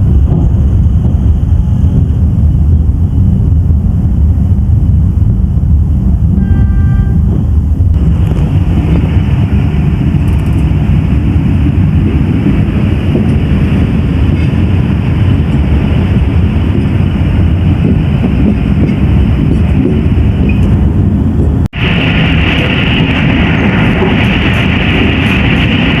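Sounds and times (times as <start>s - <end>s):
train wheels rumbling on rails: 0.0s - 26.0s
wind noise: 0.0s - 26.0s.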